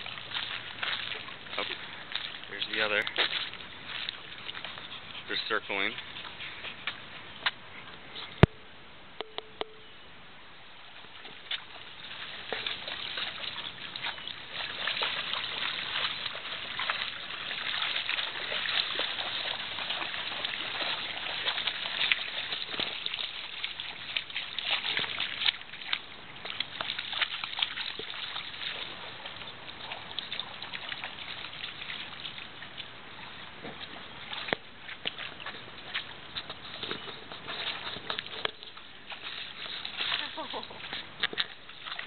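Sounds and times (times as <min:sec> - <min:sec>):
dogs splashing through water: 0:00.0 - 0:08.1, 0:10.8 - 0:42.0.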